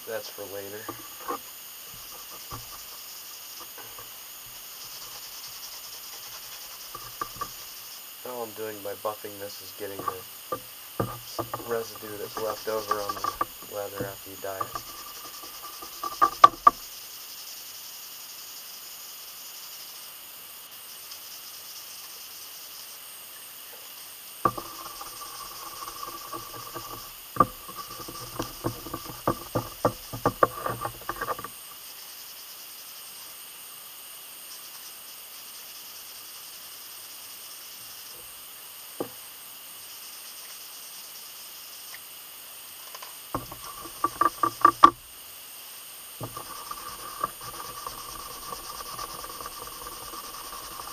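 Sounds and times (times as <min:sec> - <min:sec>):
faint steady hiss: 0:00.0 - 0:50.9.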